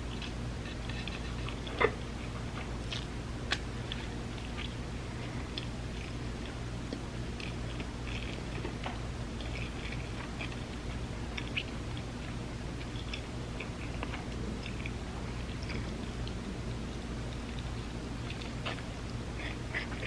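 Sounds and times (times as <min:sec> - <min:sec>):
low hum: 0:00.0 - 0:20.0
wet chewing mouth clicks: 0:00.1 - 0:16.4, 0:17.3 - 0:20.0.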